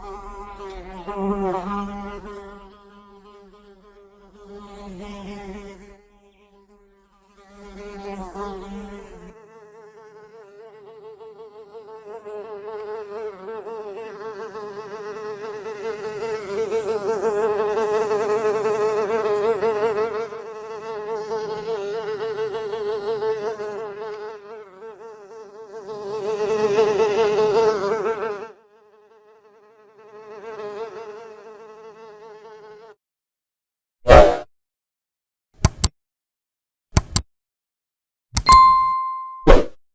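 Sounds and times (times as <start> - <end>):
fly buzzing: 0.0 - 33.0.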